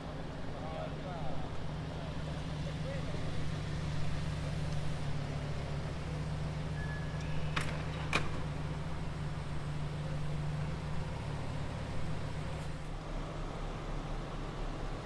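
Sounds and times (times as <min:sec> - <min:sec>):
sports car engine idling: 0:00.0 - 0:15.0.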